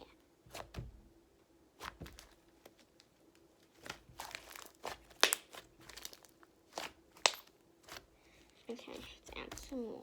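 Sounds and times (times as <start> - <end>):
crinkling handling noise: 1.8 - 10.0.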